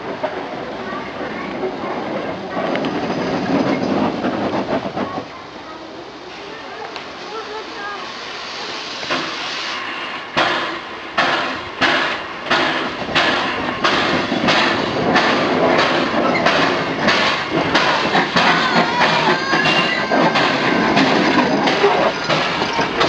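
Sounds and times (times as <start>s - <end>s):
steam hiss: 0.0s - 23.0s.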